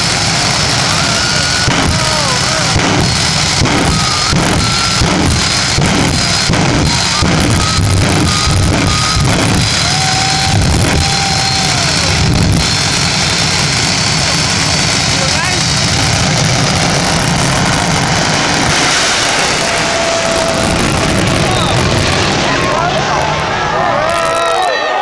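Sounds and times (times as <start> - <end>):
loud rock music: 0.0 - 23.7
jet engines idling whine: 0.0 - 25.0.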